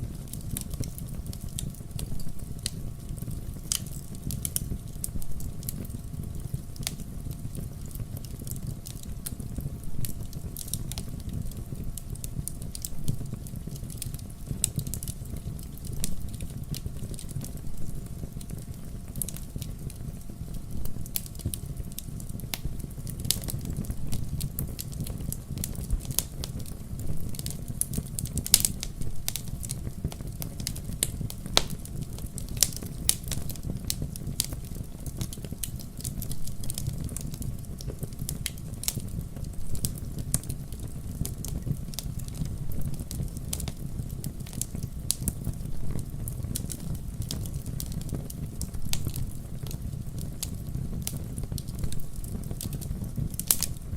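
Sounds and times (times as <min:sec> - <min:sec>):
fireplace fire crackling: 0:00.0 - 0:53.9
low rumble of flames: 0:00.0 - 0:53.9
sharp pops of fire: 0:00.0 - 0:53.9.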